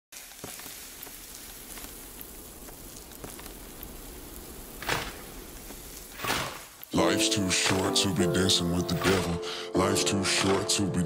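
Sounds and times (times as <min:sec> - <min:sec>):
steady crackling noise: 0:00.1 - 0:09.4.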